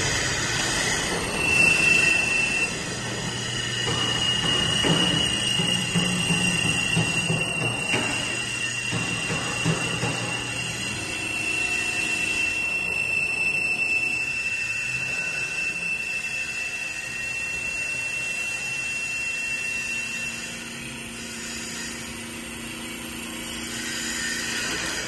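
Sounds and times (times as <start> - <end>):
wood lathe whine: 0.0 - 25.0.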